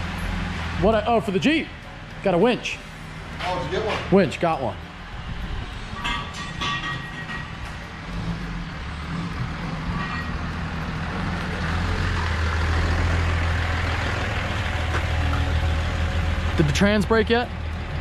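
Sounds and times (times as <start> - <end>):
diesel pickup engine idling: 0.0 - 18.0.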